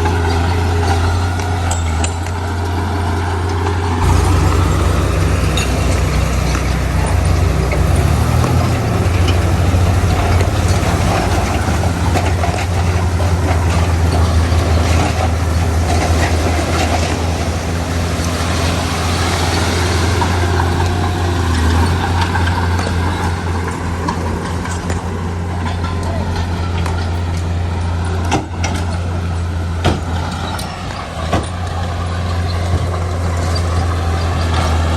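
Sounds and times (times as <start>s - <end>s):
heavy diesel engine droning: 0.0s - 34.9s.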